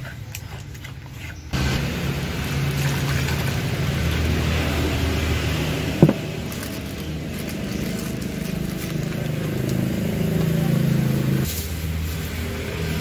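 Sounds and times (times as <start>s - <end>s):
vehicle engine humming: 1.4s - 13.0s.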